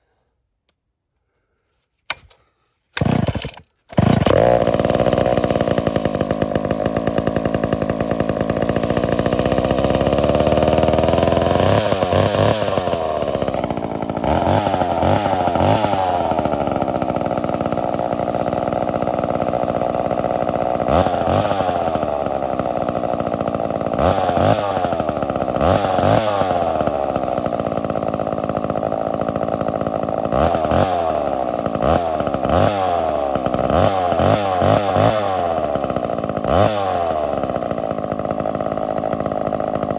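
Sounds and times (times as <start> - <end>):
chainsaw revving: 3.0 - 39.9.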